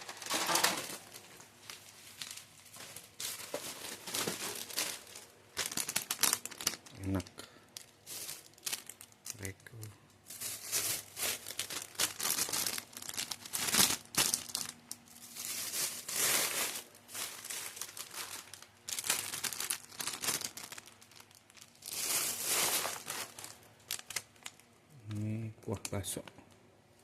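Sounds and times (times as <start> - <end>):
plastic wrappers crinkling: 0.0 - 26.5.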